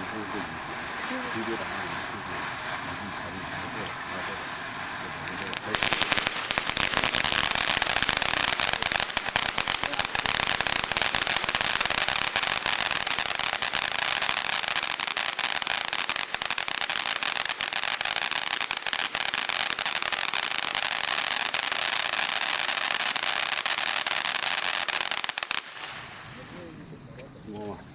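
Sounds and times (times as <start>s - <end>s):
firework crackling pops: 0.0s - 27.9s.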